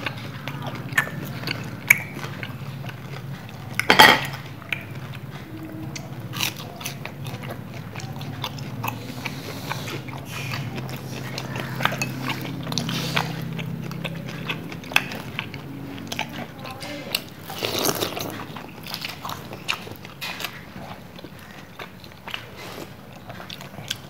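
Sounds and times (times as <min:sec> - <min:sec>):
chewing crispy fritters: 0:00.0 - 0:24.0
low steady hum: 0:00.0 - 0:24.0.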